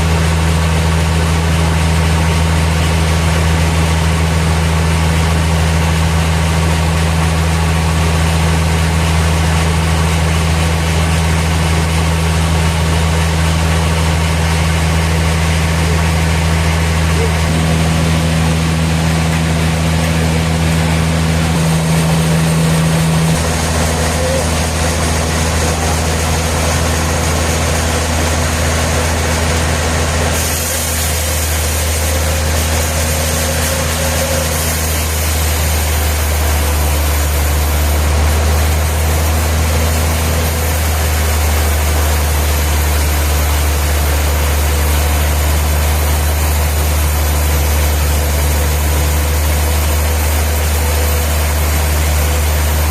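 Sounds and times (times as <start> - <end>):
sawmill machinery humming: 0.0 - 52.9.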